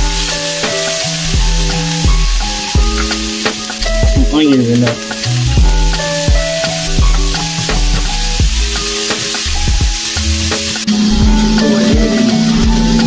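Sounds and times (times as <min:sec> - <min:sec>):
background music with bass and percussion: 0:00.0 - 0:13.0
vegetables sizzling in a frying pan: 0:00.0 - 0:13.0.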